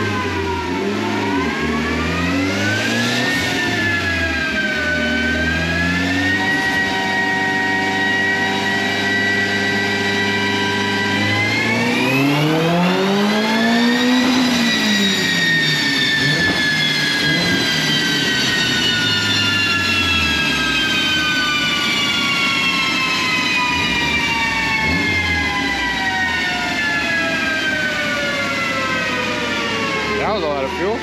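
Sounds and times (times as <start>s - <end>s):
car engine revving on a dyno: 0.0s - 31.0s
falling whine of dyno rollers: 0.0s - 31.0s.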